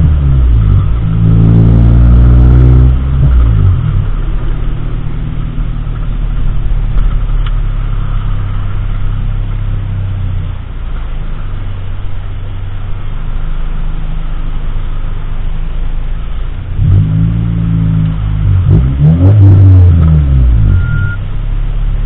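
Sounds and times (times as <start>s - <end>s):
car engine revving: 0.0s - 22.0s
road noise: 0.0s - 22.0s.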